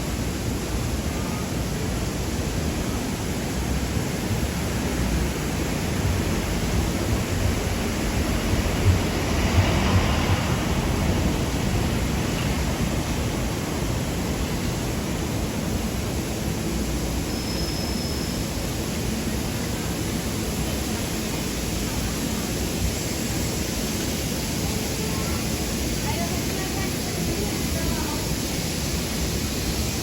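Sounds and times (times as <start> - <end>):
traffic noise: 0.0 - 30.0.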